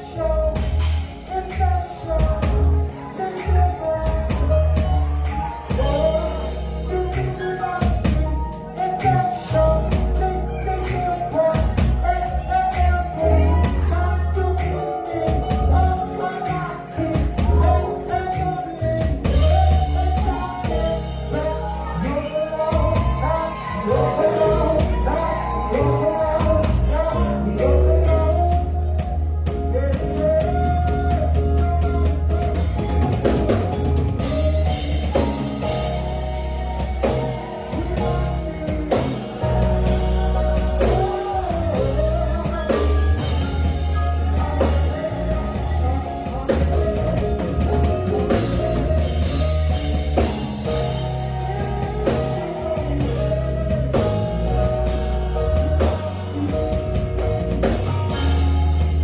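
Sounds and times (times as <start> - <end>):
band with heavy bass and drums: 0.0 - 59.0
person singing live: 0.0 - 59.0.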